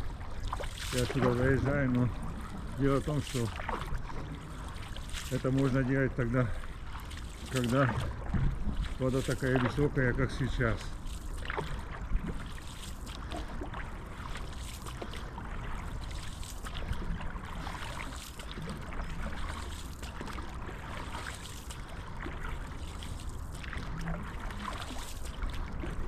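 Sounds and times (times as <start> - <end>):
paddle splashing in water: 0.0 - 26.0.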